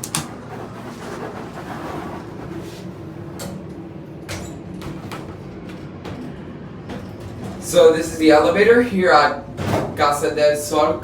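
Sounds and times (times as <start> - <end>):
elevator doors sliding: 0.0 - 11.0
steady low hum: 0.0 - 11.0.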